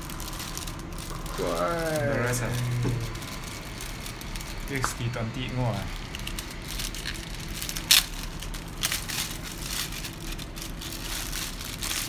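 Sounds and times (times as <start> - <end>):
rustling: 0.0 - 12.0
steady low hiss: 0.0 - 12.0.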